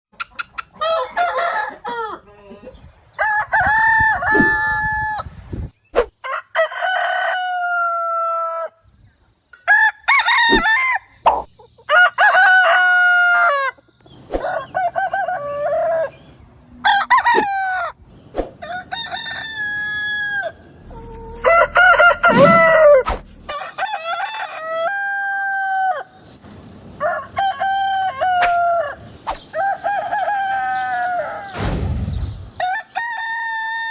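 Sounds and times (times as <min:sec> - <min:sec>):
roosters crowing: 0:00.7 - 0:05.4, 0:06.2 - 0:08.8, 0:09.6 - 0:11.2, 0:11.8 - 0:18.0, 0:18.6 - 0:31.7, 0:32.4 - 0:33.9.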